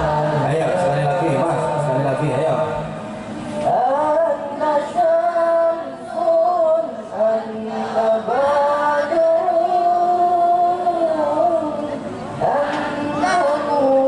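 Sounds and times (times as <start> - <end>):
man singing into a microphone: 0.0 - 2.8, 3.6 - 14.0.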